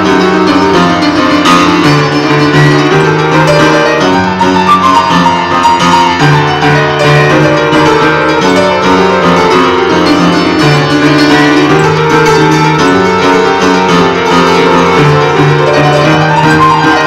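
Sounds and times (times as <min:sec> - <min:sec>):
upright piano improvising: 0:00.0 - 0:17.0.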